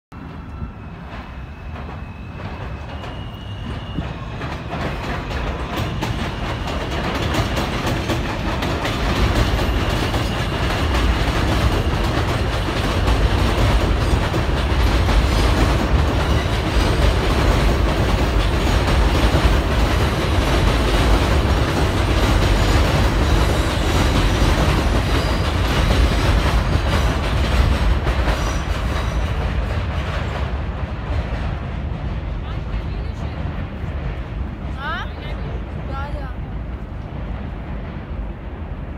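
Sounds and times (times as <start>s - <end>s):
train rumbling on elevated track: 0.1s - 38.9s.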